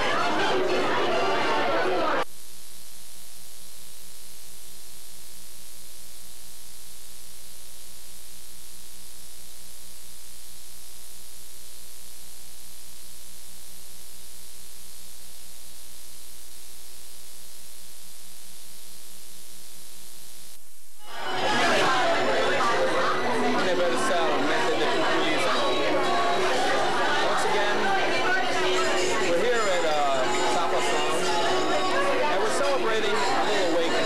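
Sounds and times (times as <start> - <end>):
static hiss: 2.0 - 32.1.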